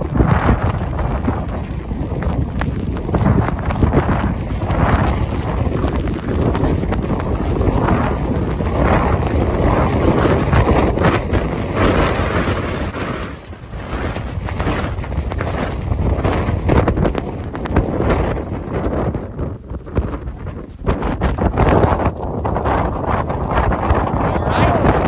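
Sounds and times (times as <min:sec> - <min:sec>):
wind gusting on microphone: 0:00.0 - 0:25.0.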